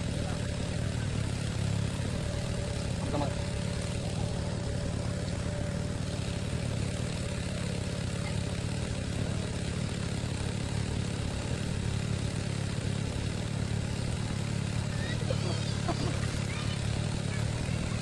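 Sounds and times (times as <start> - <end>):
water pump petrol engine running: 0.0 - 18.0.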